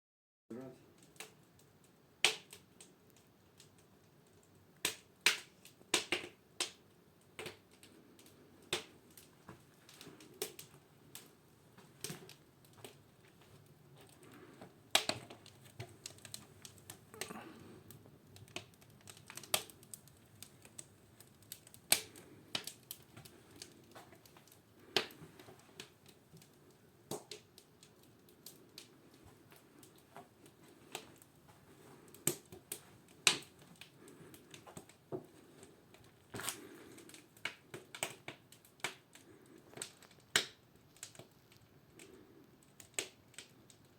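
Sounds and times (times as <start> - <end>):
faint room noise: 0.5 - 43.9
sharp clicks and snaps: 1.0 - 9.3, 14.0 - 31.3, 32.1 - 35.0, 35.6 - 43.9.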